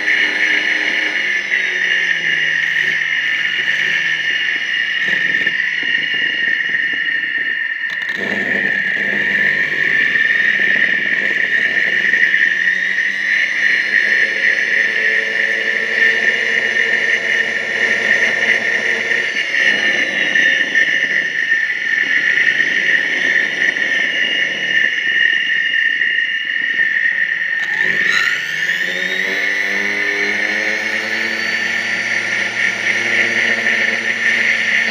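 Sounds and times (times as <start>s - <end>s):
motor whining: 0.0s - 34.9s.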